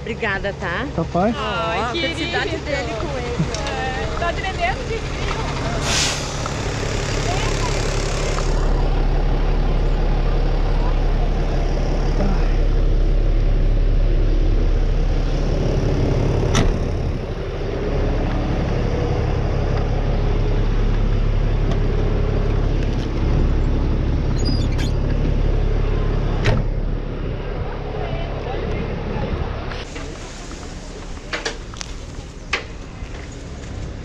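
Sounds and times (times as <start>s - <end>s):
fire truck engine idling: 0.0s - 34.0s.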